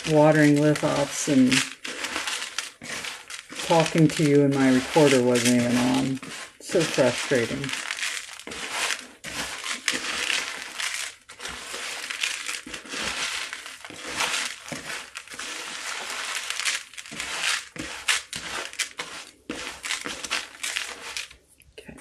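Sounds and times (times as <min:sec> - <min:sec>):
hand stirring gravelly potting mix: 0:00.0 - 0:22.0.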